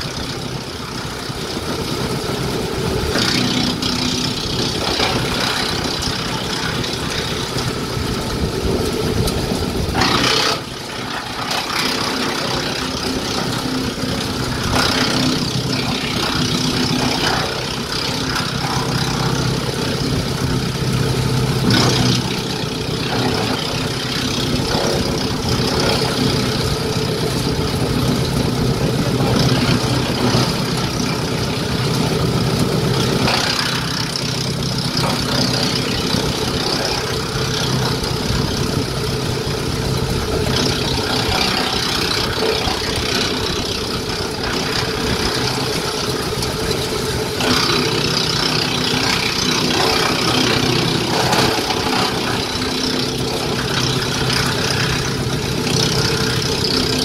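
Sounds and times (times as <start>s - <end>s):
tractor engine under load: 0.0s - 57.0s
wood chipper crunching branches: 0.0s - 57.0s.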